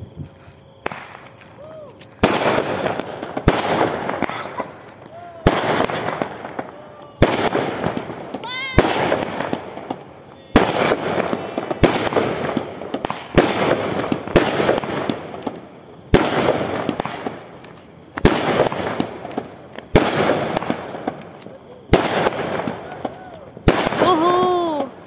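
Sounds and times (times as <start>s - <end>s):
fireworks bursting with sharp bangs: 0.0s - 25.0s.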